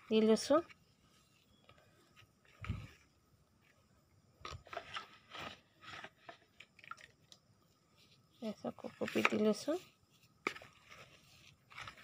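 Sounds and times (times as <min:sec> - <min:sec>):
hand scraping potting soil: 0:00.0 - 0:06.9, 0:07.7 - 0:12.0.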